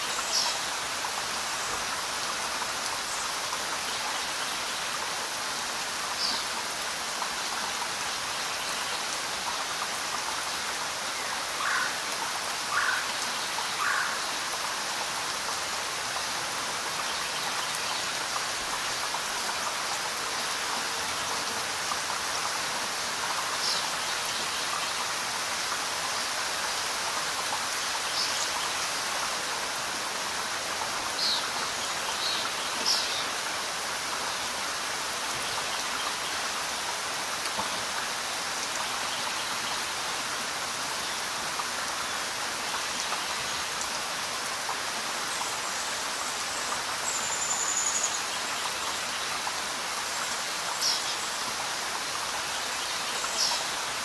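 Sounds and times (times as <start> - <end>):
steady rain on leaves: 0.0 - 54.0.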